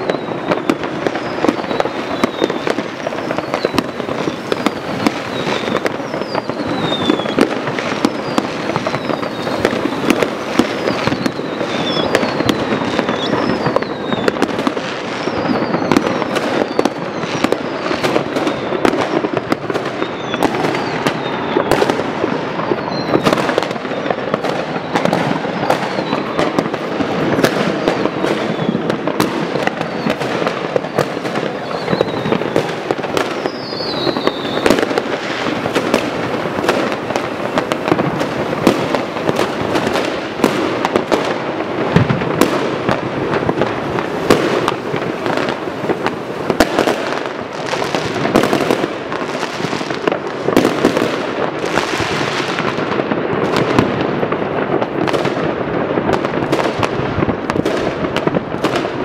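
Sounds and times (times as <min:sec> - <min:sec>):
fireworks cracking and banging: 0:00.0 - 0:59.0
whistling fireworks: 0:00.0 - 0:59.0.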